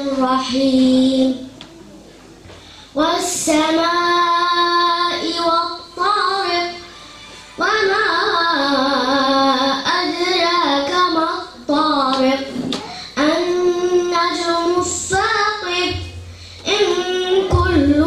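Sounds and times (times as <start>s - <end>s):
girl chanting recitation: 0.0s - 1.6s, 3.0s - 6.8s, 7.6s - 18.0s.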